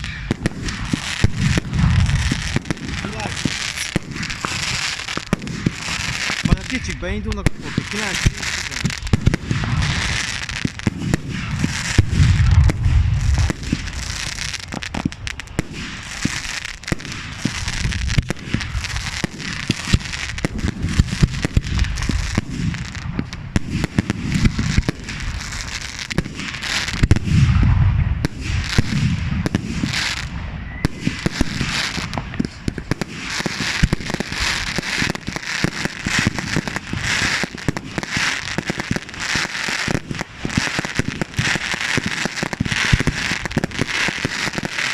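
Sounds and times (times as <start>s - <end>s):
deep firework booms: 0.0s - 44.9s
fireworks bangs and crackling: 0.0s - 44.9s.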